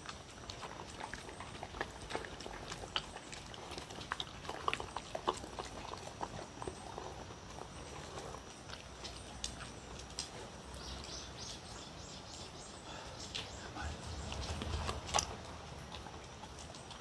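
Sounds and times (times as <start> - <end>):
dog chewing and lapping: 0.0 - 11.8, 13.4 - 17.0.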